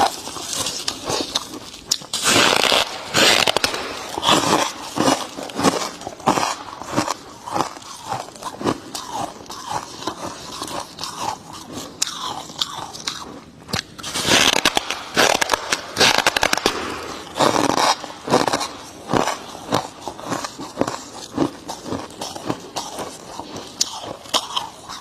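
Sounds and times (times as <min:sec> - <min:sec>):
chewing crunchy frost: 0:00.0 - 0:25.0.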